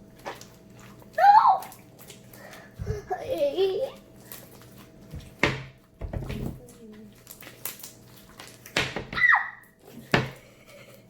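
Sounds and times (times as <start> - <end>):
wet slime squelches: 0.0 - 3.3, 4.0 - 10.1.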